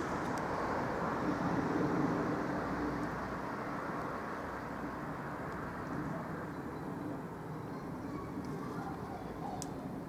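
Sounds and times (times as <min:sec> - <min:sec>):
rumble of passing vehicles: 0:00.0 - 0:10.0.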